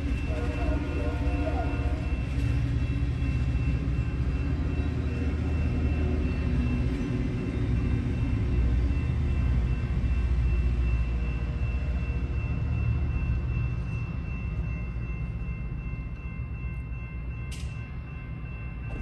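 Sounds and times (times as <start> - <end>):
crossing signal ringing: 0.0 - 19.0
train rumble: 0.0 - 19.0.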